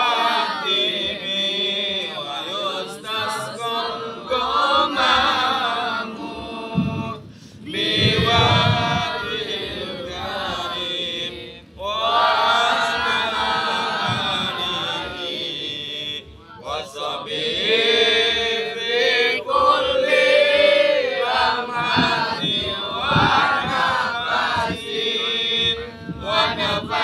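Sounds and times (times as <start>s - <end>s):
young male voices chanting: 0.0s - 27.0s.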